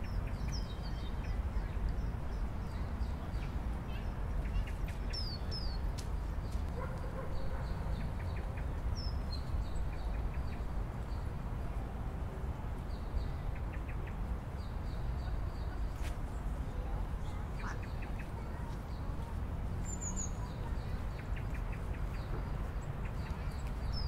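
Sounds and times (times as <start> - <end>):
small birds chirping: 0.0 - 11.4, 12.8 - 24.0.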